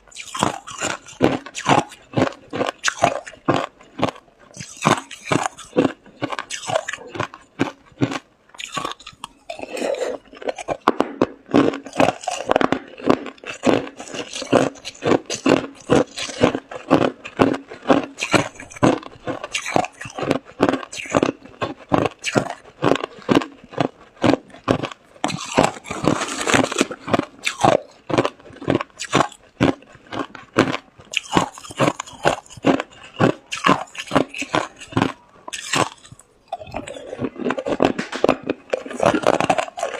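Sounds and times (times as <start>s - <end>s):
person crunching ice cubes: 0.0s - 39.9s.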